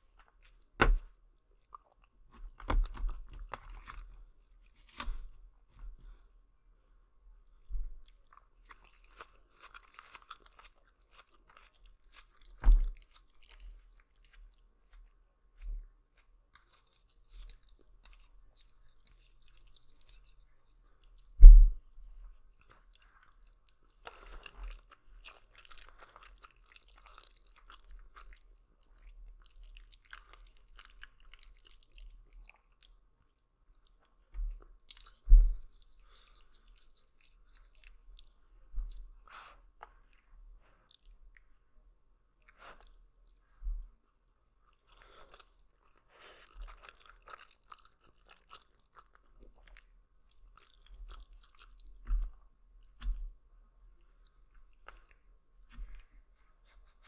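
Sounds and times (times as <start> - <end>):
close chewing of noodles: 7.5 - 41.7, 42.3 - 57.0.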